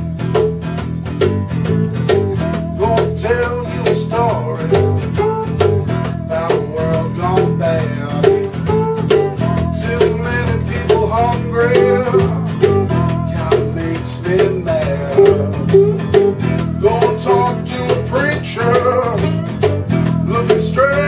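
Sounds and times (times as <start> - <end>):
blues on resonator guitar: 0.0 - 21.0.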